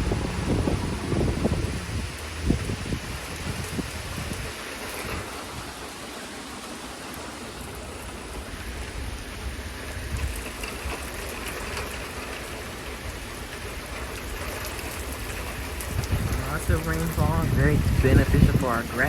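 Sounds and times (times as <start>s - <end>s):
heavy rain pouring: 0.0s - 19.0s
wind rumbling on microphone: 0.0s - 19.0s.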